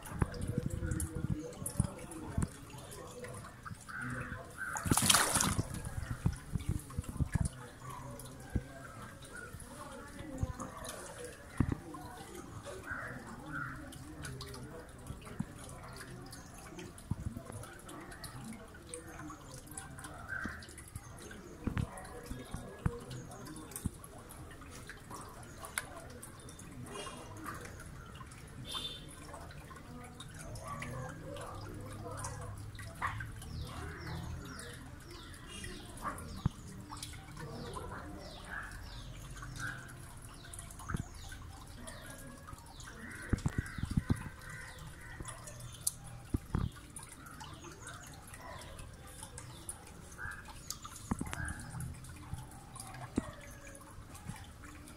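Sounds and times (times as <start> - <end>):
aquarium water dripping and splashing: 0.0 - 54.9.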